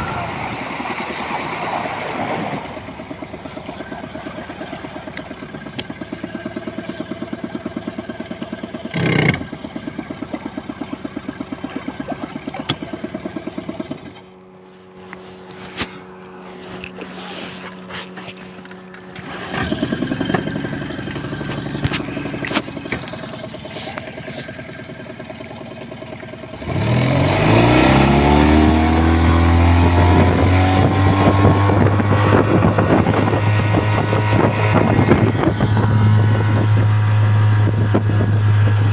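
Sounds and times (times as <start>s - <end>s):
outboard motor idling: 0.0s - 38.9s.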